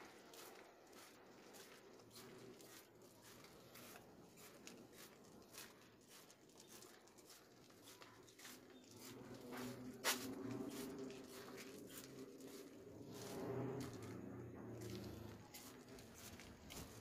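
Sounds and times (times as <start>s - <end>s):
footsteps on paved path: 0.0s - 17.0s.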